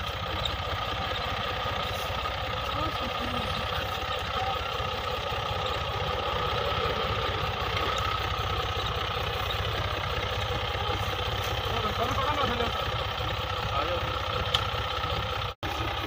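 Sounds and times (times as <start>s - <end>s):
tractor diesel engine chugging: 0.0s - 16.0s.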